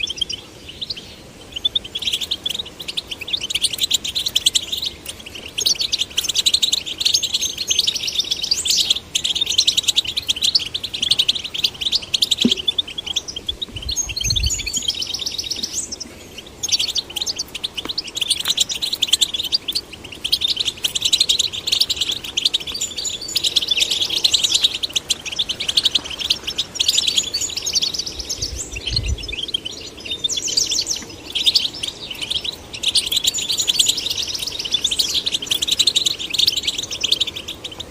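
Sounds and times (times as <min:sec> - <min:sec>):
finches singing: 0:00.0 - 0:37.9.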